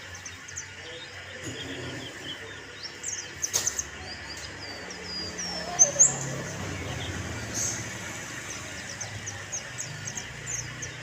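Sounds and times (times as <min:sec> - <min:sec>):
songbird twittering: 0:00.0 - 0:11.0.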